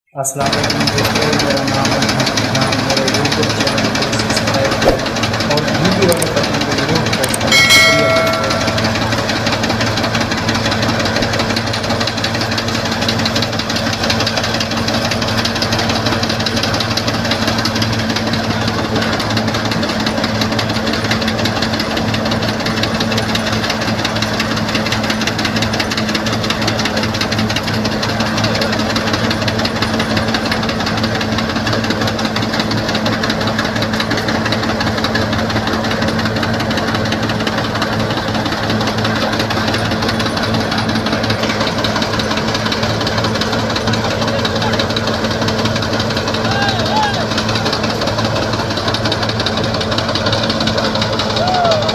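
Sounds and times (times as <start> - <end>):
wheat thresher running: 0.3 - 51.9.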